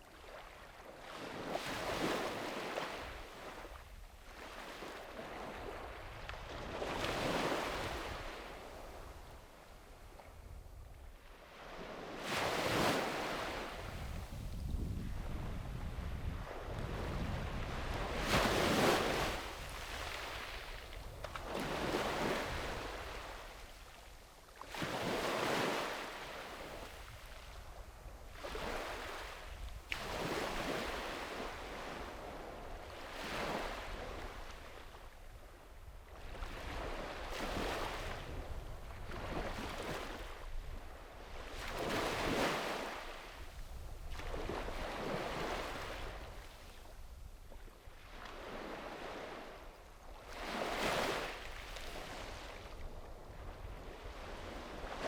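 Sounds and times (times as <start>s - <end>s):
waves washing up a beach: 0.0s - 55.0s
wind rumble on microphone: 1.0s - 49.6s, 50.2s - 55.0s.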